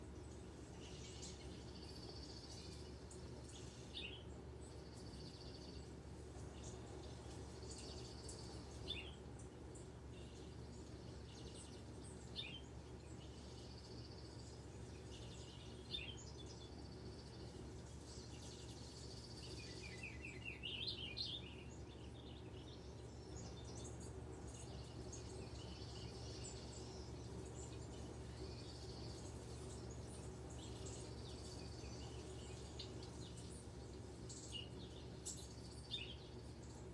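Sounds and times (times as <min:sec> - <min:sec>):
songbirds chirping and trilling: 0:00.0 - 0:36.9
steady low hum: 0:00.0 - 0:36.9.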